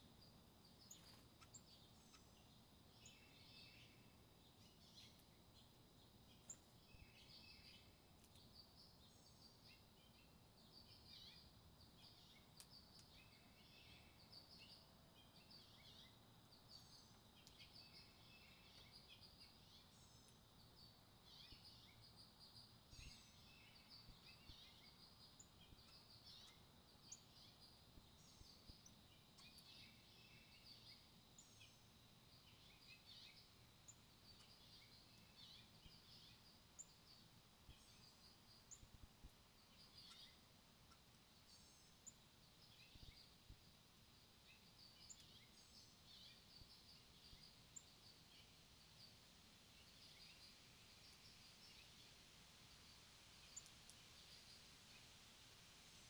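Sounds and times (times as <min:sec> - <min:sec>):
soft background hiss: 0:00.0 - 0:56.0
birds chirping and trilling: 0:00.2 - 0:38.9, 0:39.6 - 0:43.4, 0:44.5 - 0:49.2.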